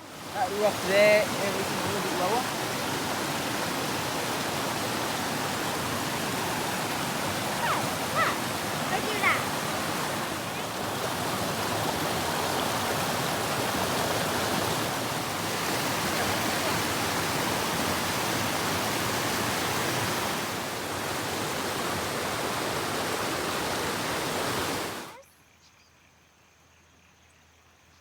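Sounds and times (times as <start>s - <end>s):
flowing water rushing: 0.0s - 25.2s.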